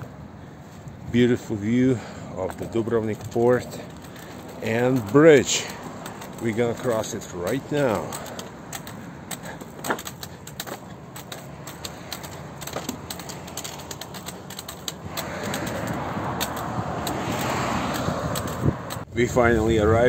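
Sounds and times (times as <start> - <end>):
car passing: 0.0 - 19.2
road traffic rumbling: 0.0 - 20.0
light clicks and taps: 2.4 - 19.1.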